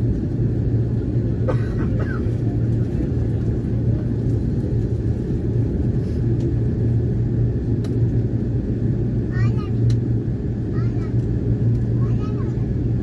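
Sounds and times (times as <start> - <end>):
jet cabin engine roar: 0.0 - 13.0.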